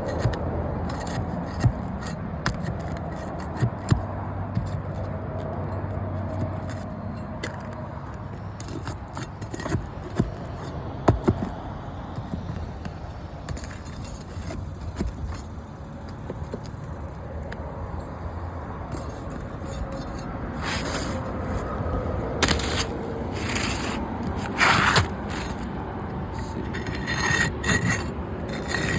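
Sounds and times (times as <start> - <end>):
hard objects scraping and rubbing: 0.0 - 28.9.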